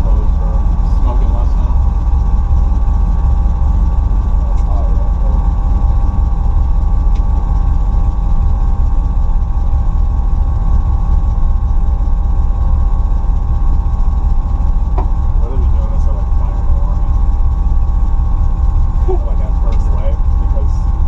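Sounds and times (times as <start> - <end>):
car engine idling: 0.0 - 21.0
steady whine: 0.0 - 21.0.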